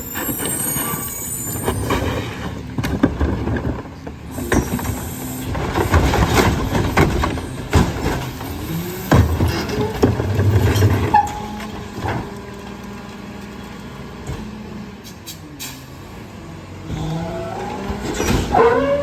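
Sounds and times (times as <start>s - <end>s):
garbage truck engine and packer: 0.0s - 19.0s.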